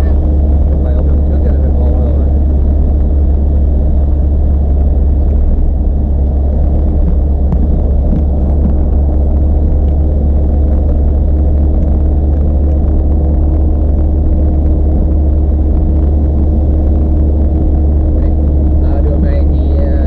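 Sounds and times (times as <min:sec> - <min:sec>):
road rumble: 0:00.0 - 0:20.0
vehicle engine hum: 0:00.0 - 0:20.0.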